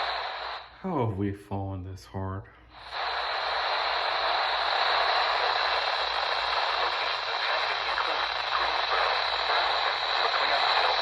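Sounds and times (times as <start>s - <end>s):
radio static hiss: 0.0s - 0.8s, 2.7s - 11.0s.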